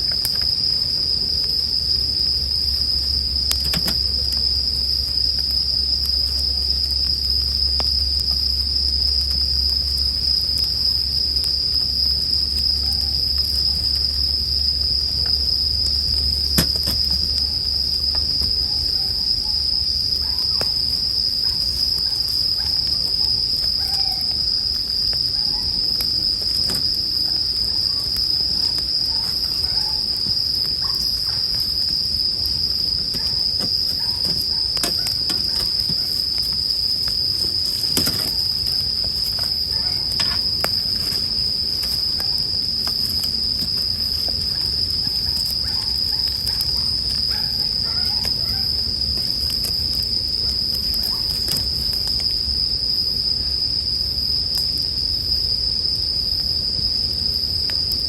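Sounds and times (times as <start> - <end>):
campfire crackling and popping: 0.0 - 19.3, 24.6 - 52.4
crickets chirping: 0.0 - 58.0.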